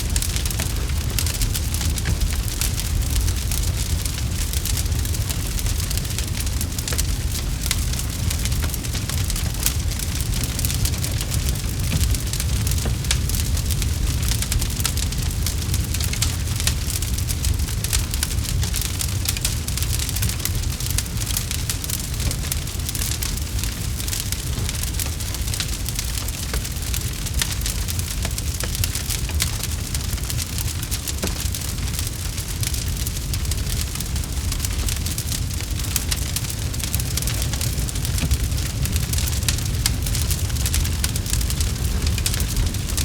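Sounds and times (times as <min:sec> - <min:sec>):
campfire crackling and popping: 0:00.0 - 0:43.0
low rumble of burning fire: 0:00.0 - 0:43.0.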